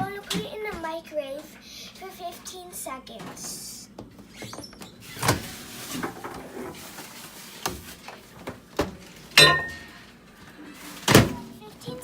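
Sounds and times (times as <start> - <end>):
microwave oven running hum: 0.0 - 12.0.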